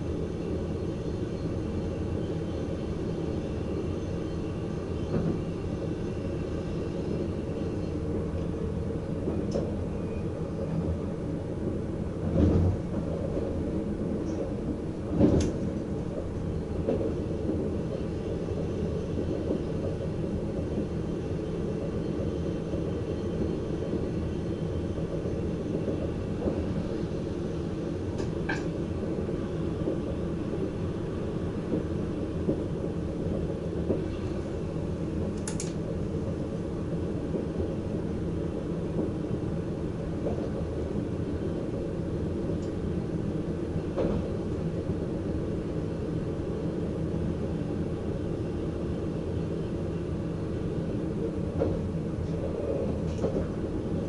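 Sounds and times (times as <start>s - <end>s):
electric train running rumble: 0.0s - 54.0s.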